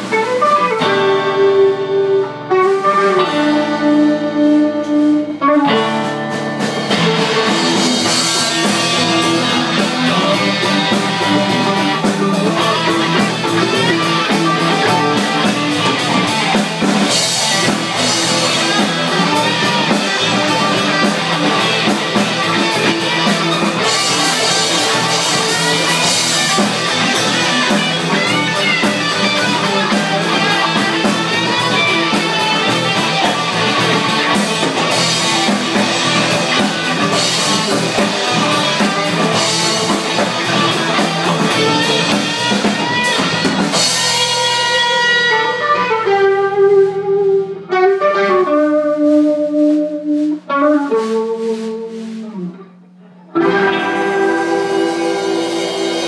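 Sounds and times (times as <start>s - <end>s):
drum kit: 0.0s - 56.0s
electric bass: 0.0s - 56.0s
electric guitars: 0.0s - 56.0s
rock band playing live: 0.0s - 56.0s.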